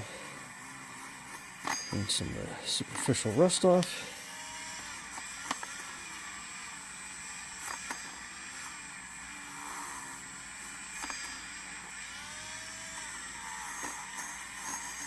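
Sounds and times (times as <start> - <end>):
rotary tool grinding metal: 0.0 - 15.0.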